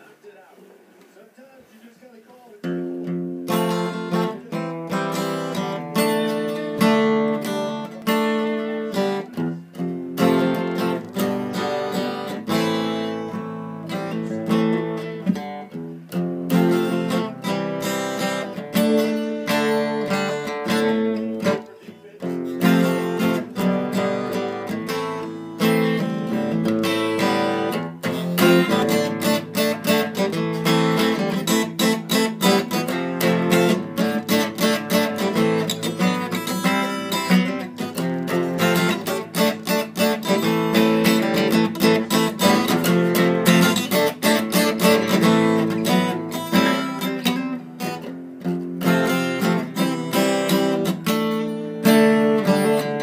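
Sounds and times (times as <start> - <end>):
acoustic guitar strumming chords: 2.3 - 53.0.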